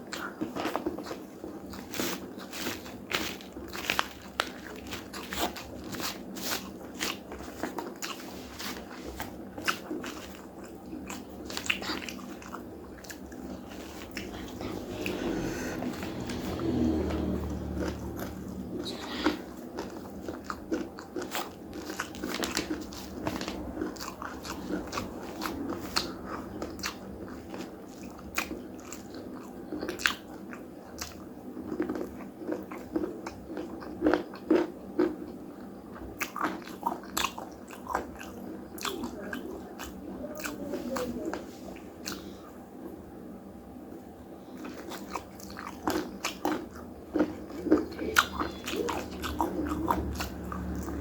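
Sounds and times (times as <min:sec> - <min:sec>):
wet chewing: 0:00.0 - 0:42.4, 0:44.6 - 0:51.0.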